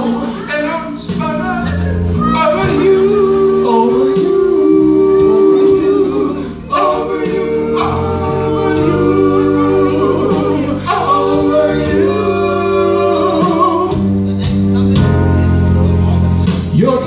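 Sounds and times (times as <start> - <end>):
live soul band playing: 0.0 - 17.0.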